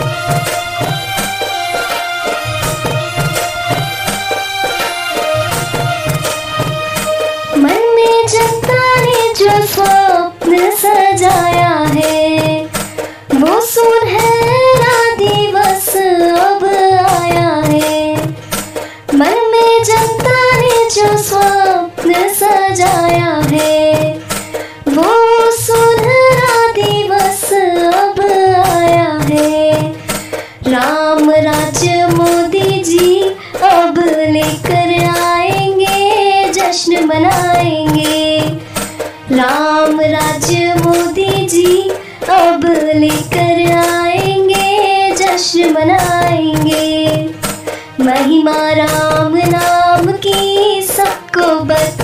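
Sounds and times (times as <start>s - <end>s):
devotional song melody: 0.0s - 52.0s
hand percussion beat: 0.0s - 52.0s.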